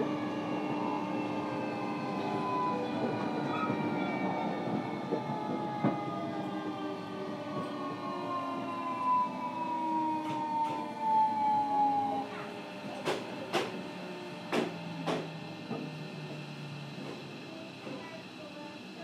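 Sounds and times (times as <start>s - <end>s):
wheels rumbling on rail: 0.0s - 18.8s
train motor whine: 0.0s - 19.0s.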